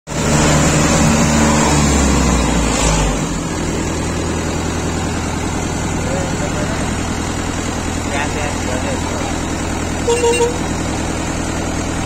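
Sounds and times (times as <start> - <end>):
tractor diesel engine running: 0.1 - 12.0.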